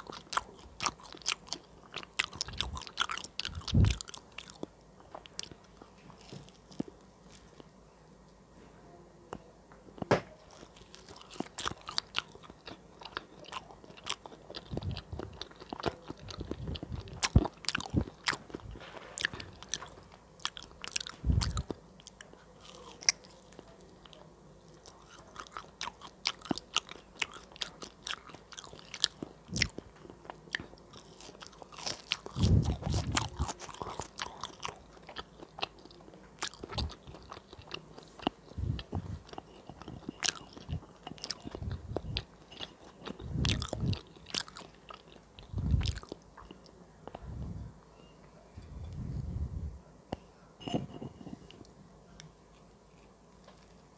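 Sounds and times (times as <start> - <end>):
crunchy bites and chewing: 0.0 - 7.7, 10.0 - 47.2.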